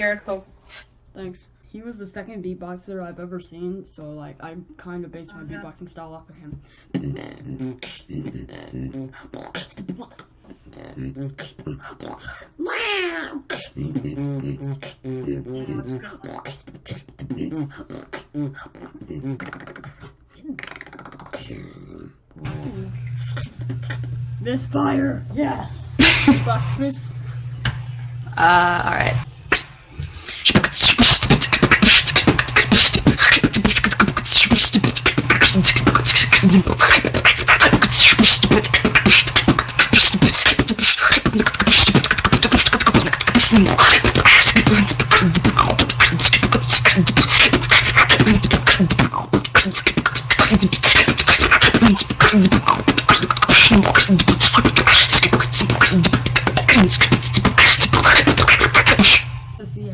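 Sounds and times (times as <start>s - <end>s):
steady low hum: 0.0s - 59.9s
person beatboxing: 5.4s - 27.0s, 29.4s - 59.4s.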